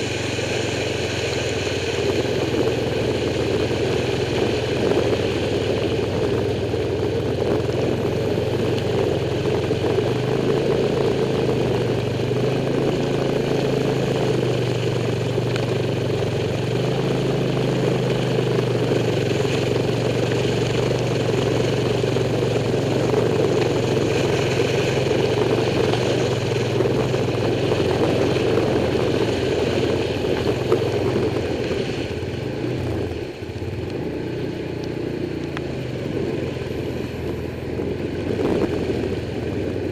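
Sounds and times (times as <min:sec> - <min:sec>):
motorcycle engine running: 0:00.0 - 0:39.9
rush of water noise: 0:00.0 - 0:39.9.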